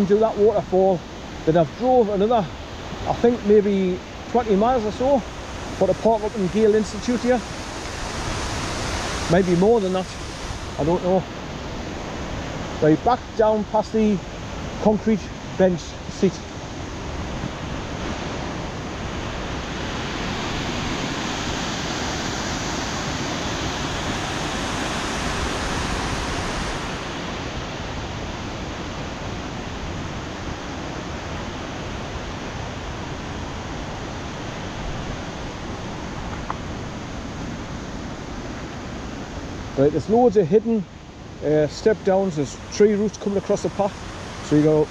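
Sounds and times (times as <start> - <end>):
water rushing in a waterfall: 0.0 - 44.9.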